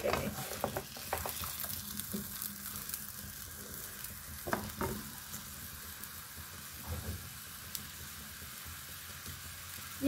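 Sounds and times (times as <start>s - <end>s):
chicken sizzling in pan: 0.0s - 10.0s.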